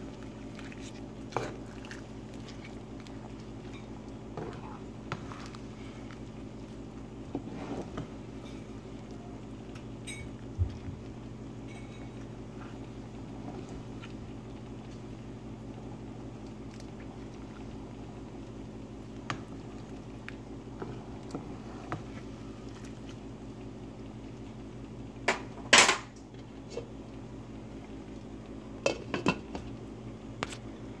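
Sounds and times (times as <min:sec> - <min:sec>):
sauce bubbling: 0:00.0 - 0:25.3
steady low hum: 0:00.0 - 0:31.0.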